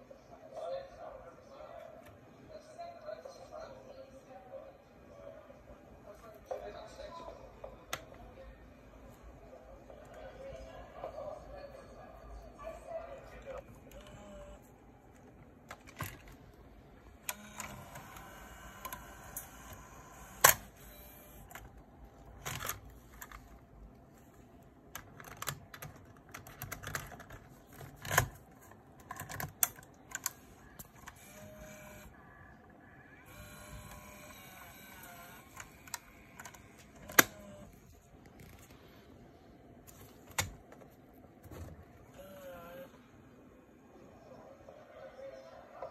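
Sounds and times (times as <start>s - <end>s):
faint whir: 1.5s - 24.7s, 30.2s - 45.9s.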